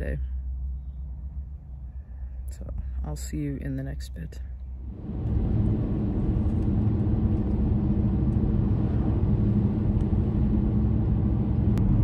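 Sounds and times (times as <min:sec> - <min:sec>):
car road and engine drone: 0:00.0 - 0:12.0.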